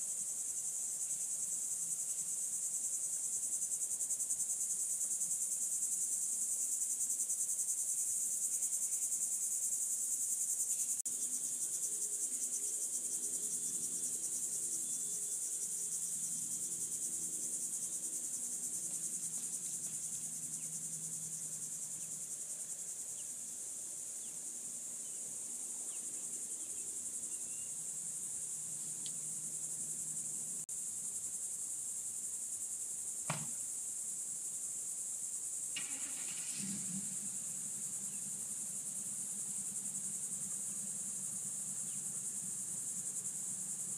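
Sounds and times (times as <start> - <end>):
insects buzzing trill: 0.0 - 43.9.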